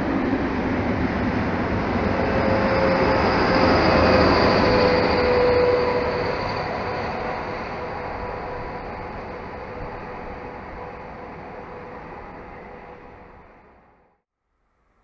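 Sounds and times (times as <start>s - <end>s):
freight train rumbling past: 0.0s - 14.1s
locomotive whine: 0.0s - 14.2s.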